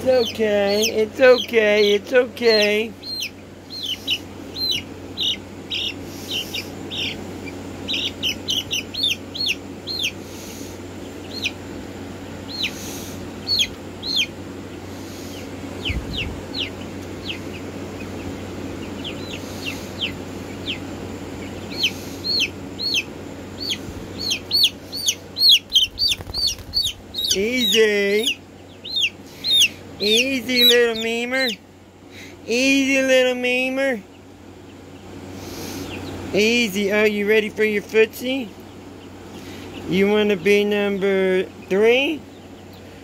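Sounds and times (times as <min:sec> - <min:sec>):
chicks peeping: 0:00.0 - 0:43.0
steady low hum: 0:00.0 - 0:43.0.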